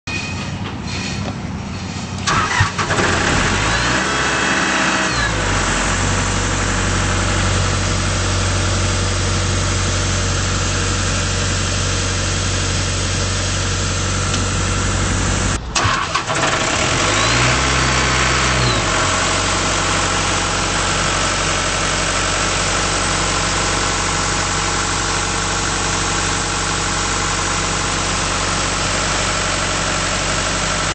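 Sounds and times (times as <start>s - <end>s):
diesel engine running: 0.1s - 30.9s
diesel engine cranking and catching: 0.3s - 30.9s.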